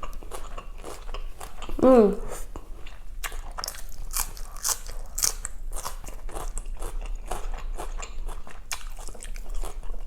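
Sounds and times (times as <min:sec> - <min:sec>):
crunchy chewing: 0:00.0 - 0:10.0.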